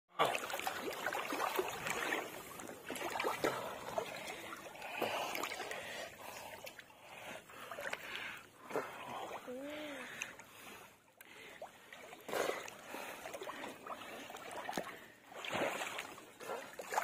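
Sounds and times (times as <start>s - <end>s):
water splashing and sloshing: 0.1s - 17.0s.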